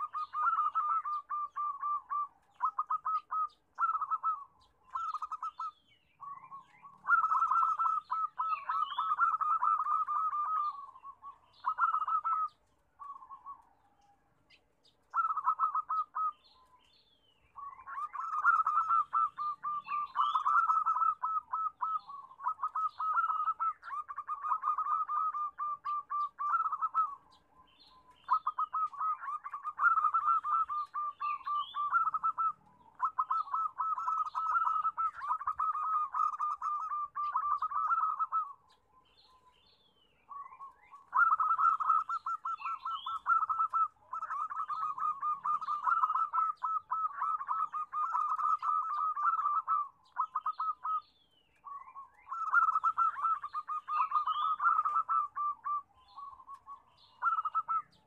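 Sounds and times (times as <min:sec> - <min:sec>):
dove cooing: 0:00.0 - 0:39.4, 0:40.3 - 0:58.0.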